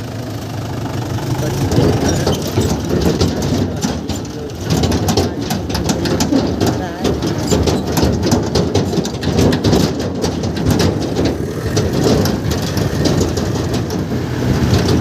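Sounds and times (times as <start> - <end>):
vehicle engine running: 0.0 - 15.0
rattles and knocks: 0.9 - 15.0.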